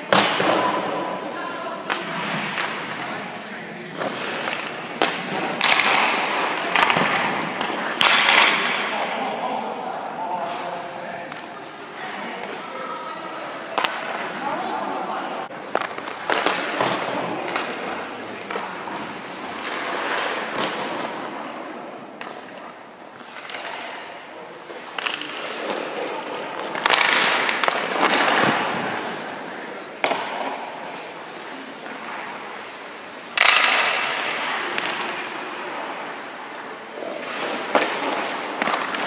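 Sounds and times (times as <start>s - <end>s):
skate blades scraping ice: 0.6s - 9.8s, 15.6s - 22.4s, 23.1s - 24.1s, 24.7s - 39.0s.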